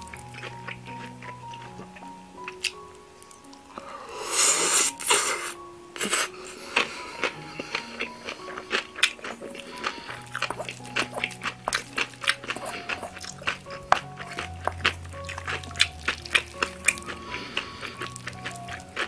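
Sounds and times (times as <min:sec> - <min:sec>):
chewing and mouth noises: 0:00.0 - 0:03.8, 0:04.8 - 0:19.0
soft background music: 0:00.0 - 0:19.0.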